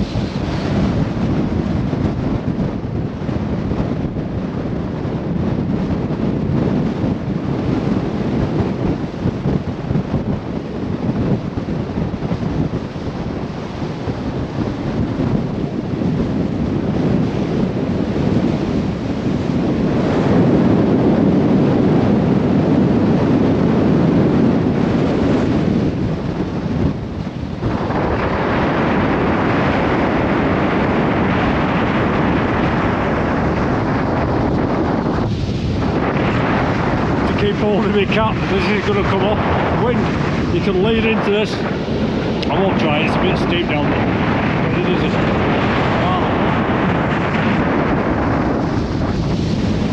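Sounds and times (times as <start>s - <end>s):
gusting wind buffeting microphone: 0.0s - 49.9s.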